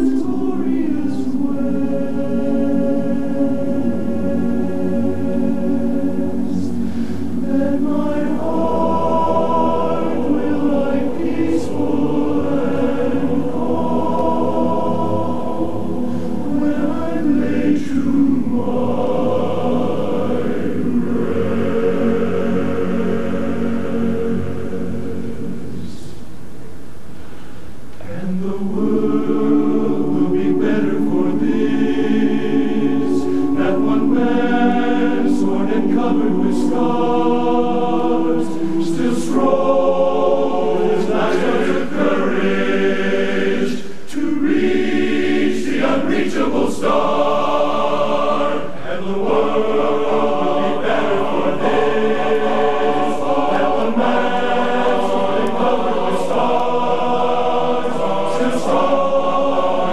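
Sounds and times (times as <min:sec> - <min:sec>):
men's chorus singing a cappella: 0:00.0 - 0:26.1, 0:28.0 - 0:59.9.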